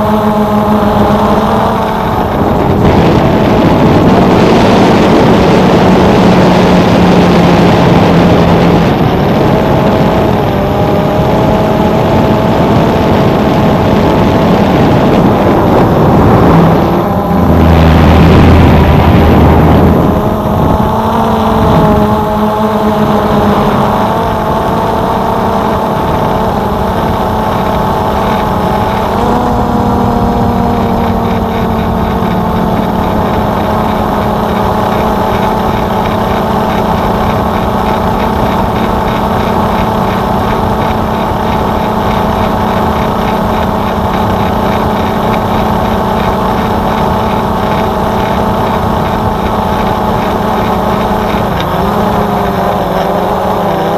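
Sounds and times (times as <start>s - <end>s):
drone propellers whining hum: 0.0s - 53.9s.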